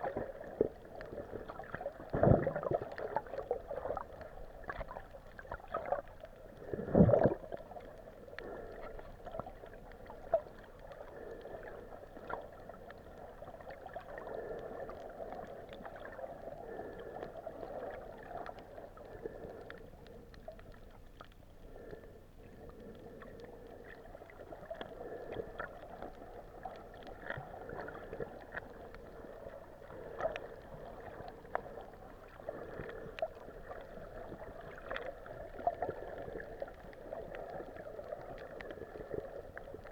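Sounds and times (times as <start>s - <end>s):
muffled underwater noise: 0.0s - 39.9s.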